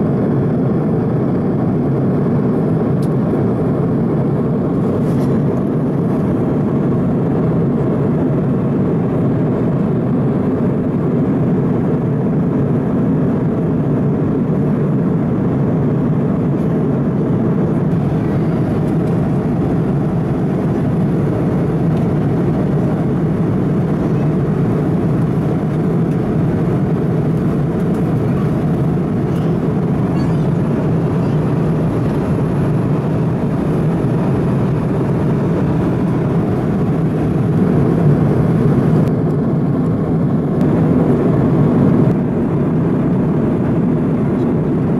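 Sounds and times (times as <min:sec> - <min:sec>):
airplane cabin roar: 0:00.0 - 0:44.9.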